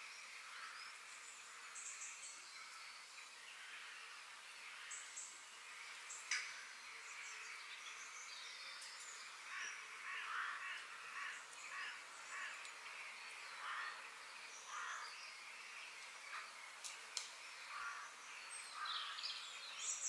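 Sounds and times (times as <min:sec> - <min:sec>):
steady hiss: 0:00.0 - 0:20.0
harsh bird calls: 0:03.5 - 0:20.0.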